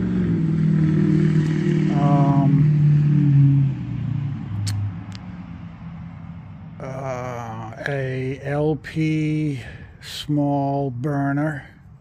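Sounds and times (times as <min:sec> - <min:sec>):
vehicle engine running loudly: 0:00.0 - 0:09.9.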